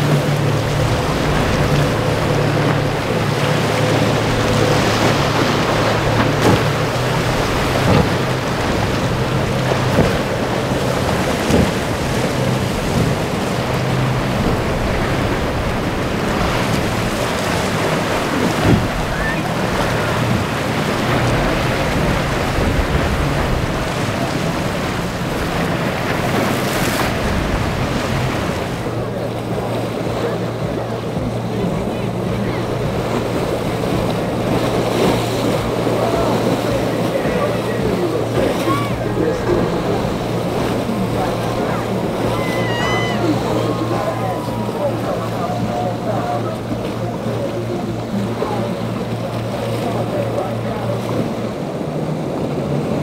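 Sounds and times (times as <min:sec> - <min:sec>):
outboard boat engine running: 0:00.0 - 0:53.0
waves breaking: 0:00.0 - 0:53.0
wind buffeting microphone: 0:00.0 - 0:53.0.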